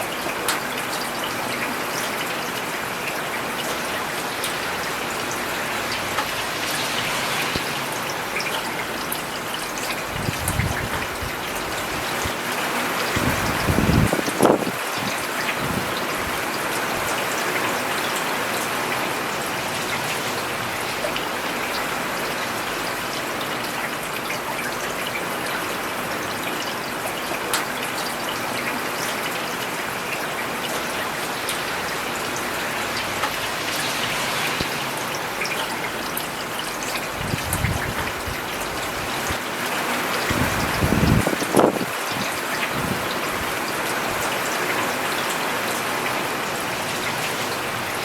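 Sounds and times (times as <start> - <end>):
rain on paved road: 0.0 - 48.0.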